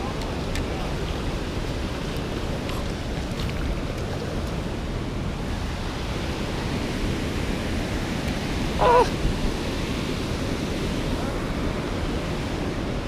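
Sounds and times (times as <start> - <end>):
creek flowing over stones: 0.0 - 10.5.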